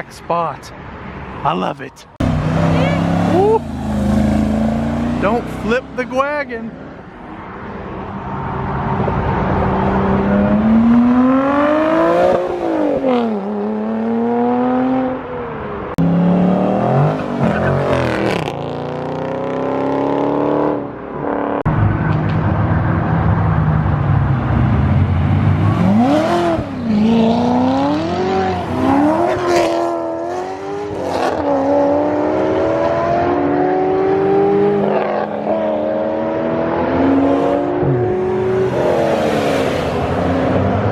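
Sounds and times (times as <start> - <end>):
cars accelerating hard: 2.2 - 40.9.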